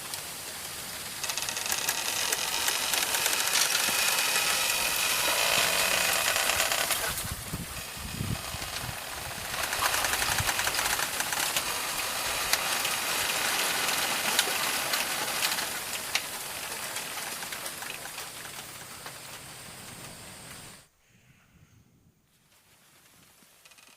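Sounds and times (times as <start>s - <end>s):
bamboo stalks clicking and creaking: 0.0s - 20.8s, 22.4s - 23.9s
bamboo rustling in wind: 0.0s - 23.9s.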